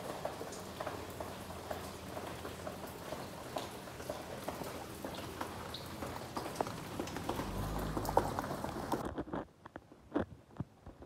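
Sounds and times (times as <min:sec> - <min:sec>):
water drips clicking: 0:00.0 - 0:09.0
light rain pattering on pavement: 0:00.0 - 0:11.0.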